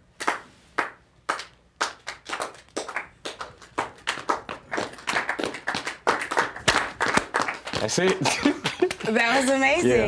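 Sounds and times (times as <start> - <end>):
people clapping: 0.2 - 9.8.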